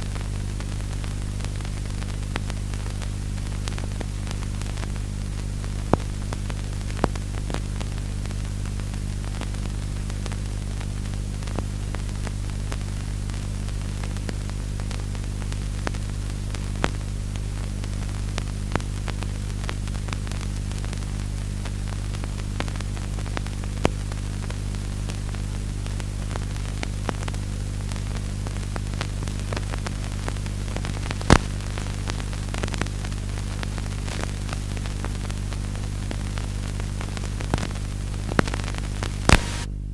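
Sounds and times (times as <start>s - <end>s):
faint clicks and crackles: 0.0s - 39.7s
electrical hum with hiss: 0.0s - 39.9s.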